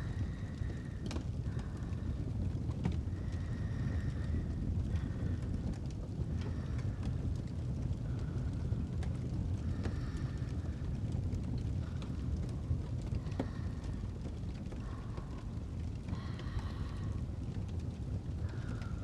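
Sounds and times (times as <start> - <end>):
fire crackles and pops: 0.0 - 19.0
fireplace low rumble: 0.0 - 19.0.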